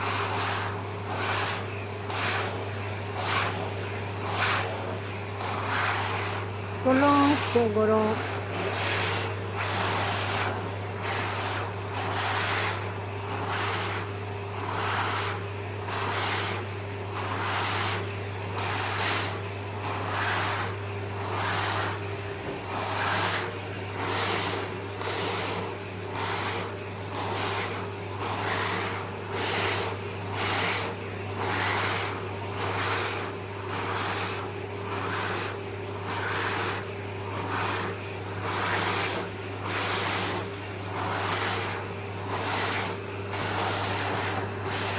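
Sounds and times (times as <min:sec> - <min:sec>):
vacuum brushing over fur: 0:00.0 - 0:44.9
vacuum cleaner motor hum: 0:00.0 - 0:44.9.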